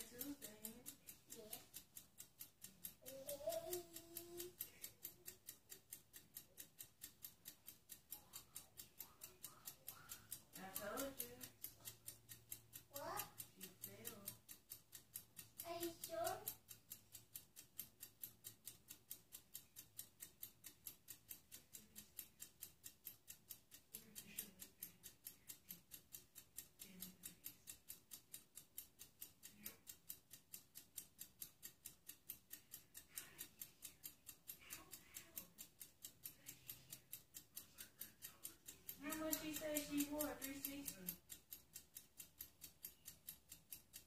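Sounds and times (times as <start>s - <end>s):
faint even ticking: 0.0s - 44.0s.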